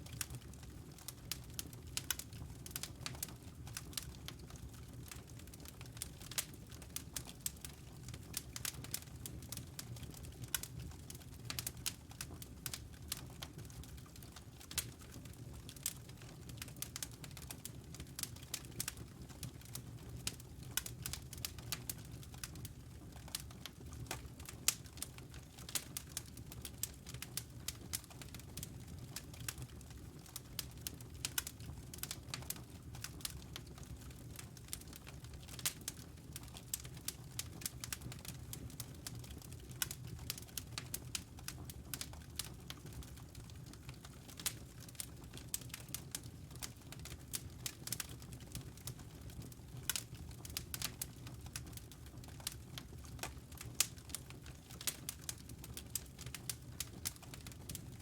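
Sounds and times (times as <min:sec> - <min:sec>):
low rumble of flame: 0:00.0 - 0:58.0
logs crackling and popping: 0:00.1 - 0:58.0.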